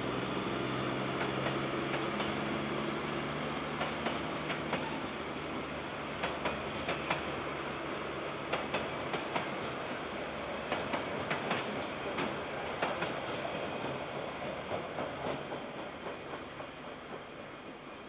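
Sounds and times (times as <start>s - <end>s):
freight train wagons rumbling: 0.0s - 18.0s.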